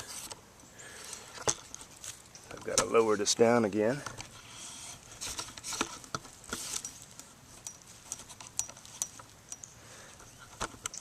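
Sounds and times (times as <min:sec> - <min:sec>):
camera handling clicks and rustles: 0:01.1 - 0:03.0, 0:04.0 - 0:11.0.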